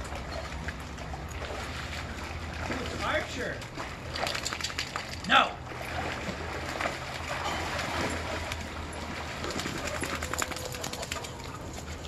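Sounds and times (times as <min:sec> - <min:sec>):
dogs splashing through water: 0:00.0 - 0:12.0.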